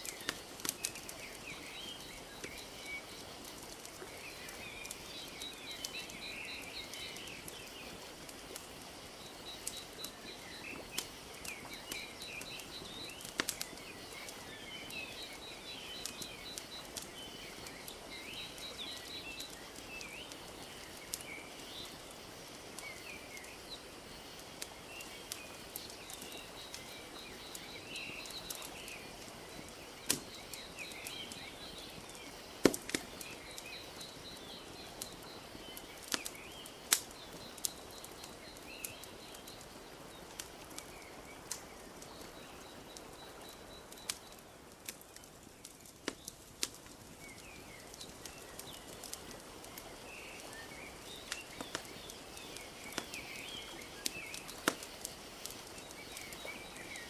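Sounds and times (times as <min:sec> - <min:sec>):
small birds chirping: 0:00.0 - 0:57.0
wood fire crackling: 0:00.0 - 0:57.0.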